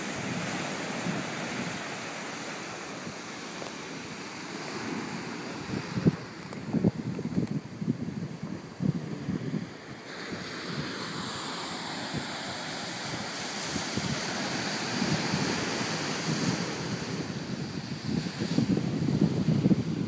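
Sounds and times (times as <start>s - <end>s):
ocean surf: 0.0s - 20.0s
rushing hiss of surf and steam: 0.0s - 20.0s
wind on microphone: 0.0s - 20.0s.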